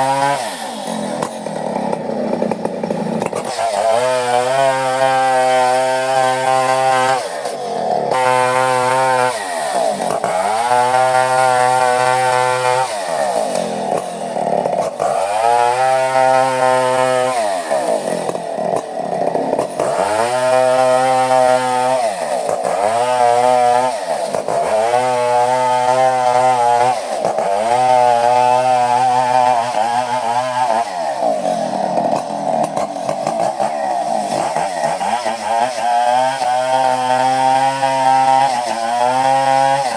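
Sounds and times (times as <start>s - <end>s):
chainsaw cutting through wood: 0.0s - 39.9s.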